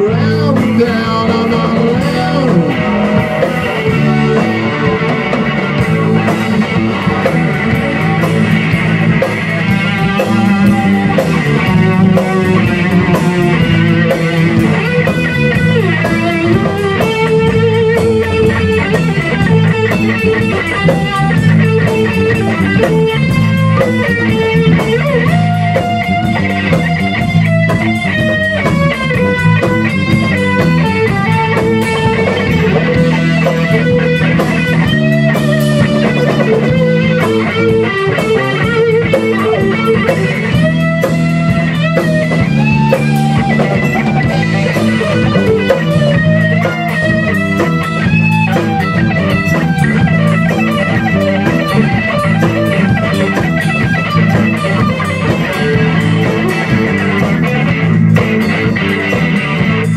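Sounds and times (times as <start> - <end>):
drum kit beat: 0.0 - 59.9
electric guitars: 0.0 - 59.9.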